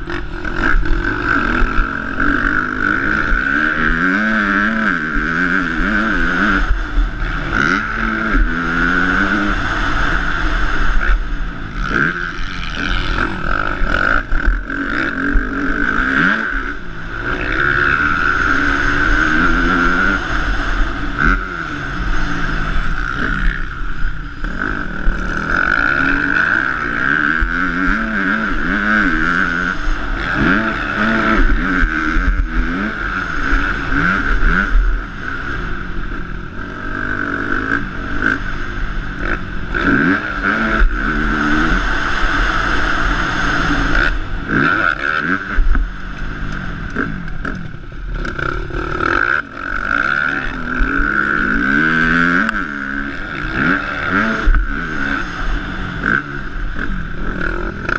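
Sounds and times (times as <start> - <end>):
motocross bike engine revving: 0.0 - 57.9
wind rushing over microphone: 0.0 - 57.9.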